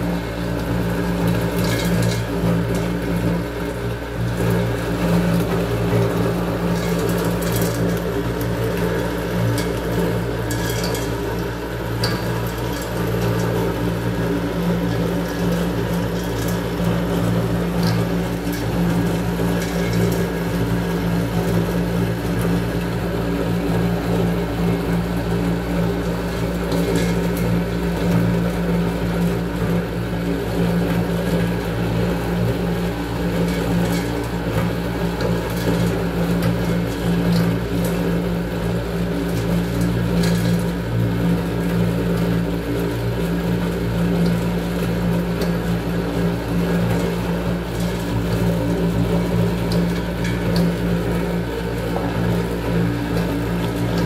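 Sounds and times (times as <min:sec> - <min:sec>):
grinding machine motor hum: 0:00.0 - 0:54.0.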